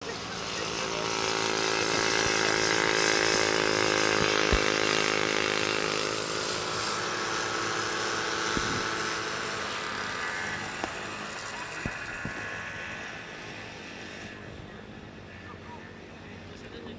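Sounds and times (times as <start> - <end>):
racing motorcycle engines revving: 0.0 - 16.9.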